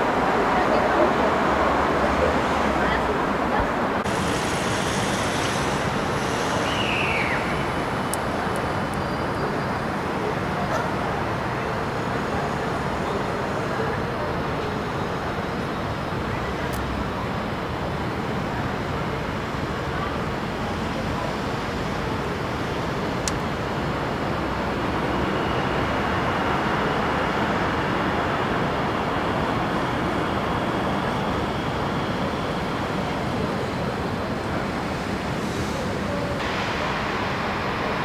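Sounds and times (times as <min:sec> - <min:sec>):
road traffic hiss: 0:00.0 - 0:38.0.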